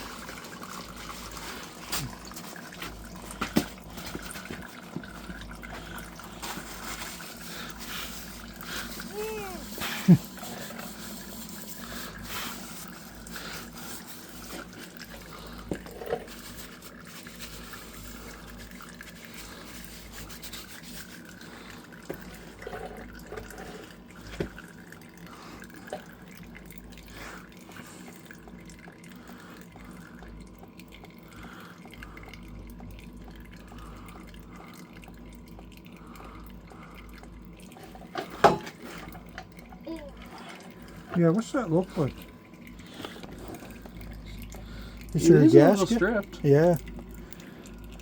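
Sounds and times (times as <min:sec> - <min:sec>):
oil pouring into drain pan: 0:00.0 - 0:48.0.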